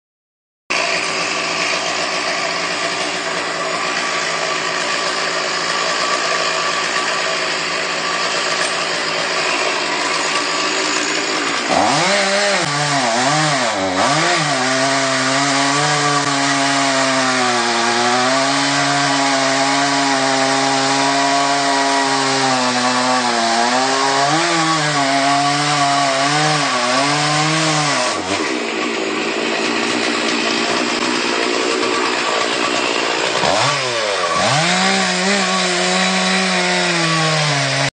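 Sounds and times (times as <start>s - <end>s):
chainsaw cutting wood: 0.7s - 37.9s.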